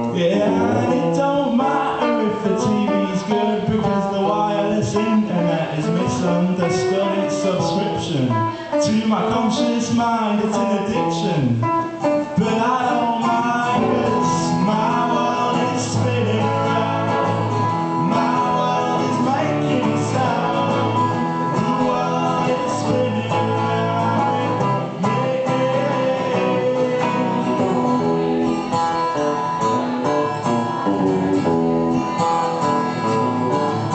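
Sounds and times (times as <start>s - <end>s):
electric guitars: 0.0s - 33.9s
live band playing: 0.0s - 33.9s.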